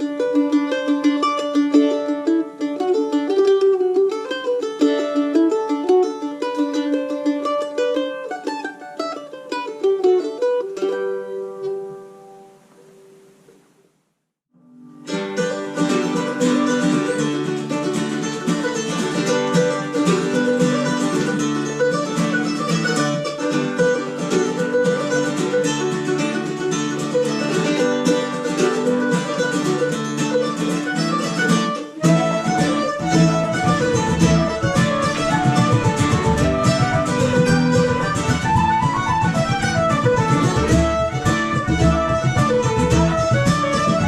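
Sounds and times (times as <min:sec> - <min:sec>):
mandolin tune: 0:00.0 - 0:13.7, 0:14.6 - 0:44.0
plucked string accompaniment: 0:00.0 - 0:13.8, 0:14.6 - 0:44.0.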